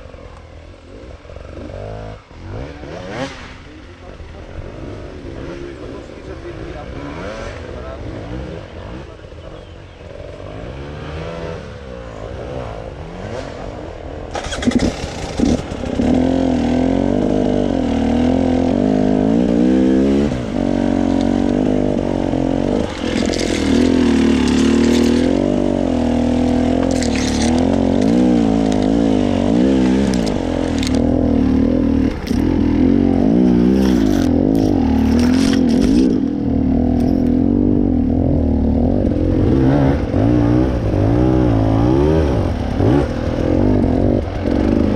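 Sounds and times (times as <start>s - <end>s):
off-road motorcycle engine: 0.0s - 44.9s.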